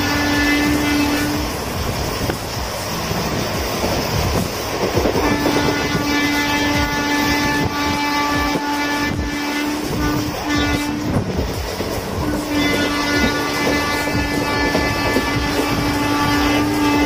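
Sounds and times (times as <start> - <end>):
train horn long blast: 0.0 - 17.0
train rumbling on track: 0.0 - 17.0.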